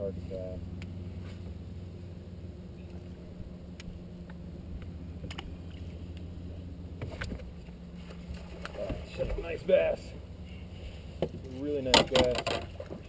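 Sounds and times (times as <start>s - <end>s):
electric trolling motor humming: 0.0s - 13.0s.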